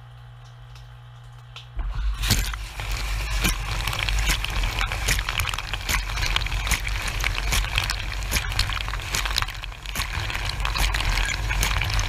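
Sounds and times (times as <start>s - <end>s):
dishwasher pump humming: 0.0s - 12.0s
water spray hissing and splashing: 2.2s - 12.0s.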